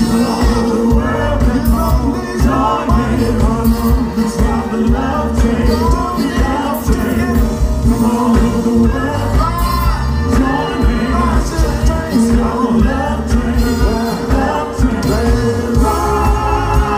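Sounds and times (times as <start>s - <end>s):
live soul band: 0.0s - 16.9s
male and female voices singing: 0.0s - 16.9s.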